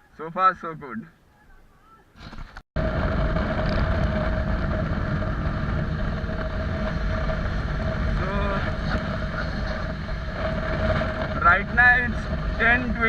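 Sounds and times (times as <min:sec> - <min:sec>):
motorcycle engine rumble: 0:02.2 - 0:13.0
wind noise on microphone: 0:02.2 - 0:13.0.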